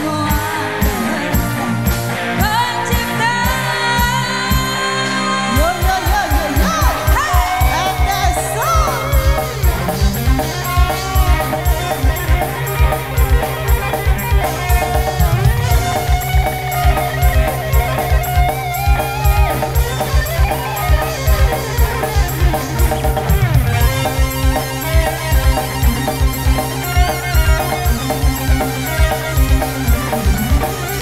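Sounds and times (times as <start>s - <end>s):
steady drum beat: 0.0s - 4.8s, 5.6s - 31.0s
electric guitar: 0.0s - 31.0s
held melodic lead line: 0.0s - 31.0s.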